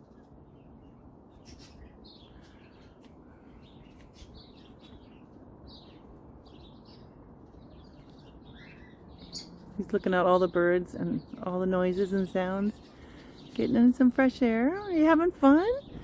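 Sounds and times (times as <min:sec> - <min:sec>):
birds chirping faintly: 0:00.0 - 0:16.0
low background noise: 0:00.0 - 0:16.0.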